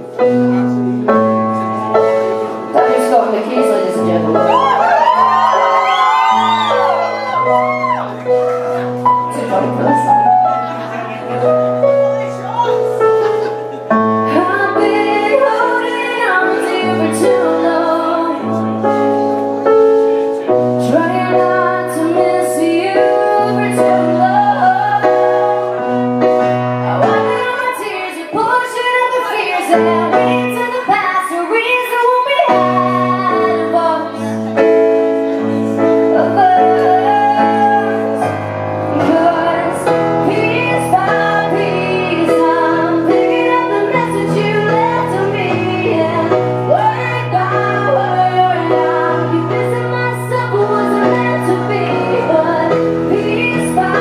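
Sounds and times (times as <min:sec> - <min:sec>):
electric keyboard playing chords: 0:00.0 - 0:54.0
woman singing into a microphone: 0:02.1 - 0:08.1, 0:14.2 - 0:19.2, 0:20.0 - 0:54.0.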